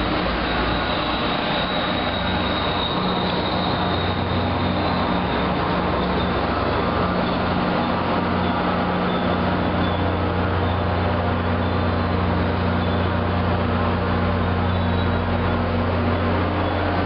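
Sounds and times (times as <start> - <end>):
diesel locomotive humming: 0.0 - 17.0.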